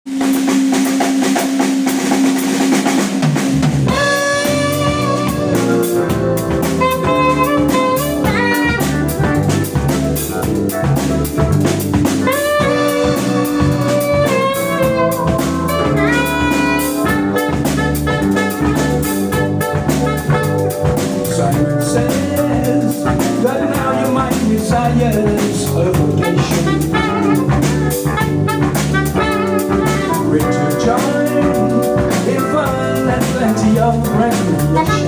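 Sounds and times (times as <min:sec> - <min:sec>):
drum kit: 0:00.1 - 0:35.0
walking bass: 0:02.1 - 0:35.0.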